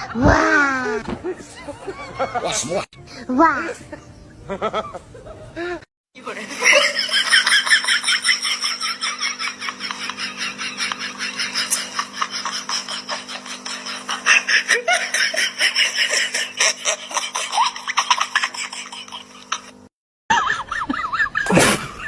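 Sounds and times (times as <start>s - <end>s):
laughter: 1.0s - 2.9s, 3.6s - 22.0s.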